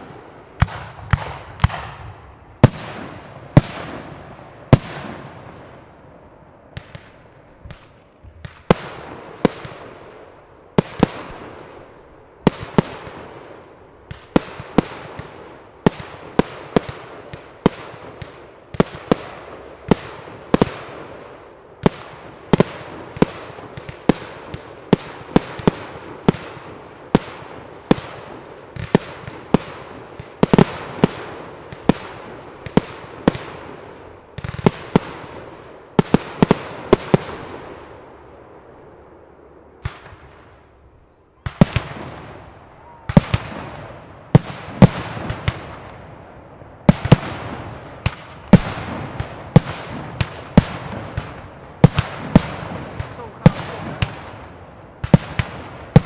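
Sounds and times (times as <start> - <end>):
fireworks bursting with echoing bangs: 0.0 - 56.0.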